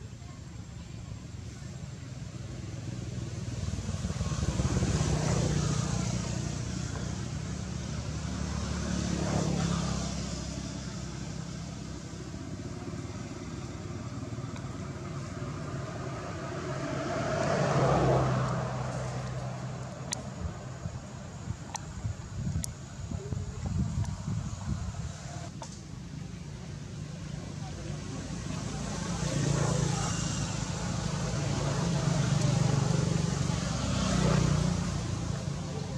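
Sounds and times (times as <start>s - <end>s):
vehicles passing by: 0.0s - 35.9s.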